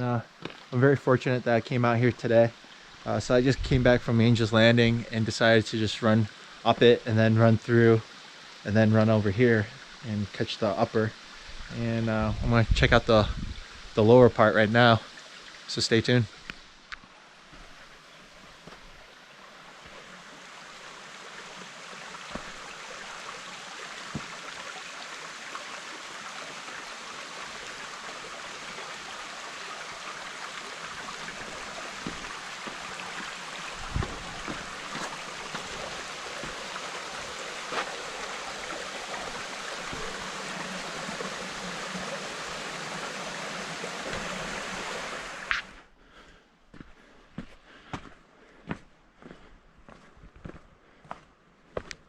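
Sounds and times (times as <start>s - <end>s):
running water from waterfall: 0.0s - 45.8s.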